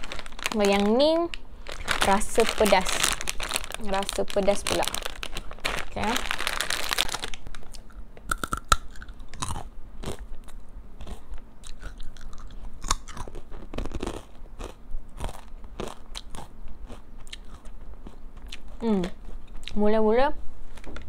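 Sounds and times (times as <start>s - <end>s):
crunching and chewing peanuts: 1.7s - 19.8s.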